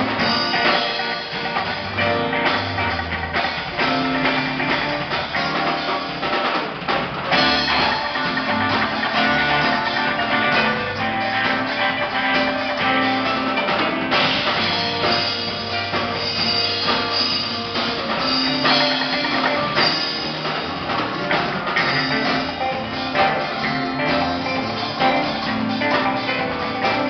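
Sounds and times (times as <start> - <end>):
drum kit: 0.0 - 27.0
guitar: 0.0 - 27.0
live band playing: 0.0 - 27.0.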